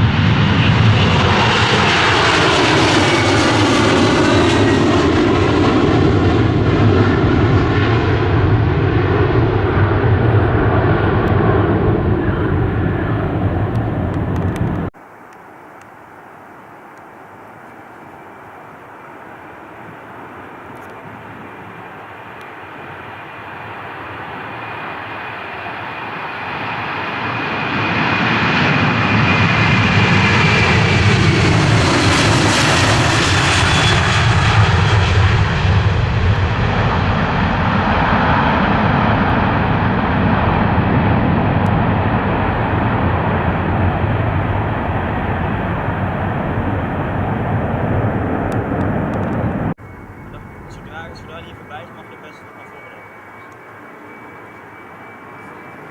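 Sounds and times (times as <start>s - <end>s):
airplane engines passing: 0.0s - 55.9s.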